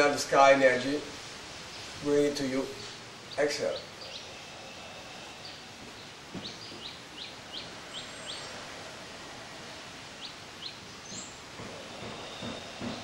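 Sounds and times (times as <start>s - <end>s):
steady outdoor hiss: 0.0s - 13.0s
bird chirping: 1.6s - 13.0s.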